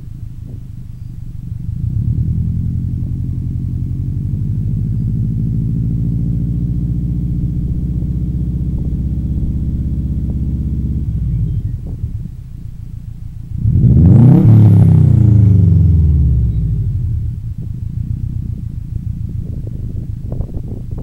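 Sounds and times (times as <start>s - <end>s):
car engine running and revving: 0.0s - 21.0s.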